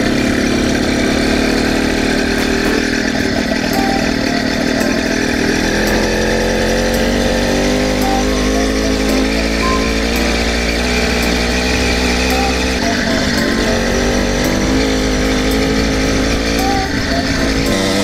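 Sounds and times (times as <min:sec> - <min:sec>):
small two-stroke engine running: 0:00.0 - 0:18.0.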